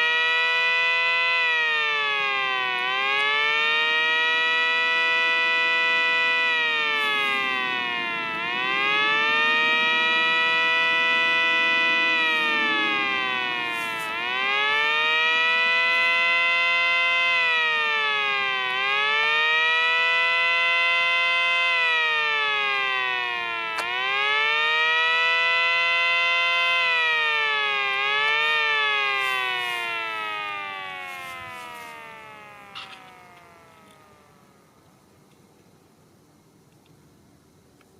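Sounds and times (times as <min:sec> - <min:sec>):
siren wailing: 0:00.0 - 0:34.8.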